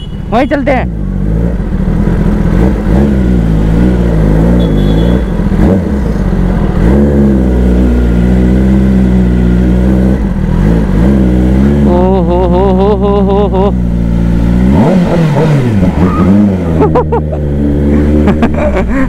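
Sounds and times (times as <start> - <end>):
motorcycle engine revving: 0.7 - 19.0.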